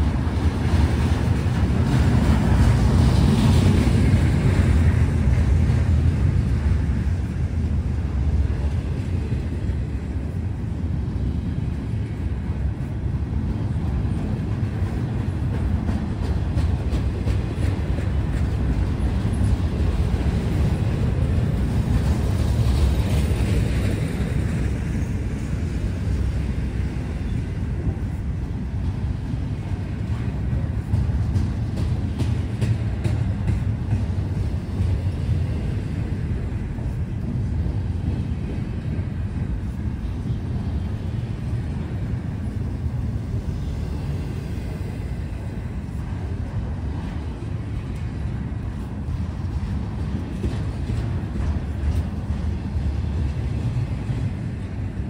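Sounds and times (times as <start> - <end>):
freight train wheels rumbling: 0.0 - 55.0
wheels clicking over rail joints: 0.0 - 55.0.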